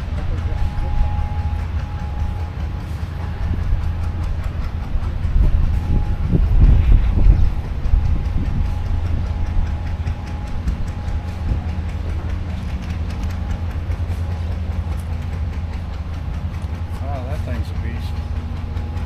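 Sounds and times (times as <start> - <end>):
engine running with clatter: 0.0 - 19.0.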